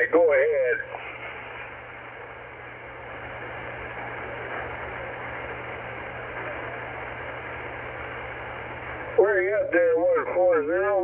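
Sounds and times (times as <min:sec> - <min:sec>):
muffled radio hiss: 0:00.0 - 0:11.0
low hum: 0:00.6 - 0:09.4.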